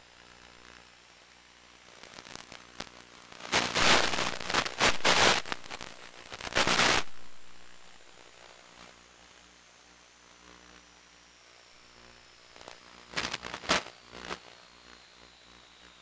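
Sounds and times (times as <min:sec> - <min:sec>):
radio static crackle and hiss: 0:00.0 - 0:16.0.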